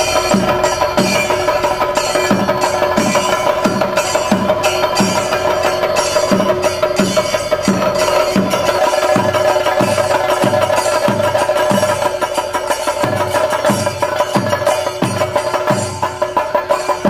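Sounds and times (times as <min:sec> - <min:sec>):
deep drum strokes: 0:00.0 - 0:17.0
steady high ringing tone: 0:00.0 - 0:17.0.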